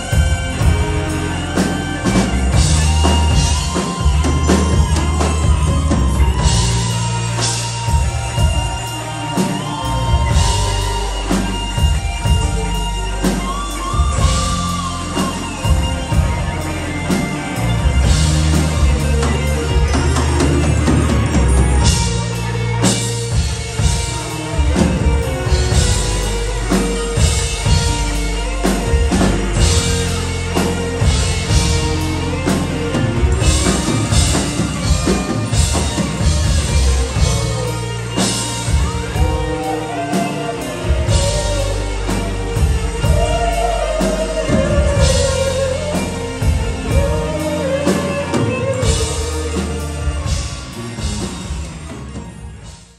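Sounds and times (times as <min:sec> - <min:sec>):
lead singer's wavering voice: 0:00.0 - 0:51.7
drum kit beat: 0:00.0 - 0:52.9
electric guitar: 0:00.0 - 0:52.9
keyboards: 0:00.0 - 0:52.9
live rock band playing: 0:00.0 - 0:52.9.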